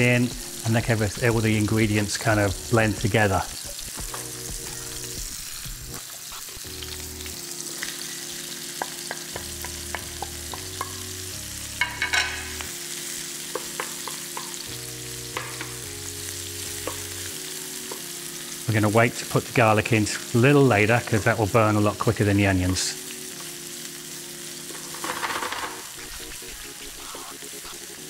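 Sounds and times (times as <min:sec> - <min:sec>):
sausage sizzling in frying pan: 0:00.0 - 0:28.0
soft background music: 0:00.0 - 0:28.0.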